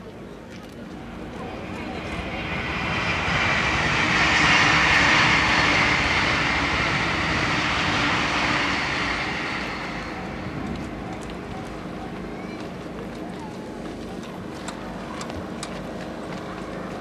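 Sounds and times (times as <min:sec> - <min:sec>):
electric train passing at speed: 0:00.6 - 0:17.0.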